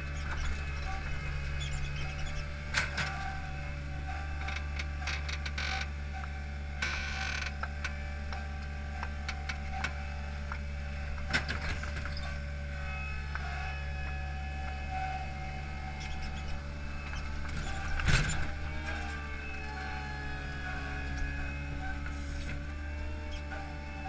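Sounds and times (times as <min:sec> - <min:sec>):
hydraulic arm clicks and creaks: 0:00.0 - 0:24.0
paving machine engine running: 0:00.0 - 0:24.0.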